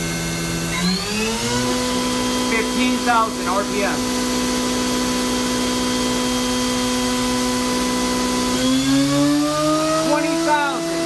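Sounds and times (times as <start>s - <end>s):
mill spindle whining: 0.0s - 11.0s.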